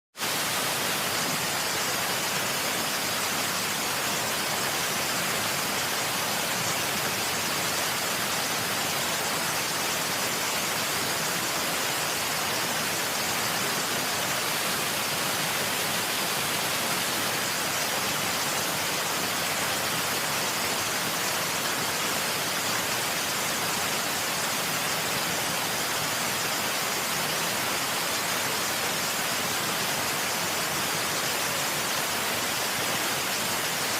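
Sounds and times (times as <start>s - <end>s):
steady high hiss: 0.2s - 33.9s.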